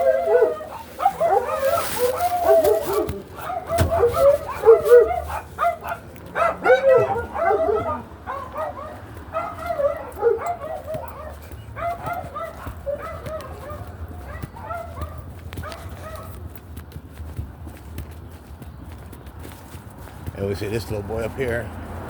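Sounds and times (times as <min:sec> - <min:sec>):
dogs barking and yipping: 0:00.0 - 0:22.0.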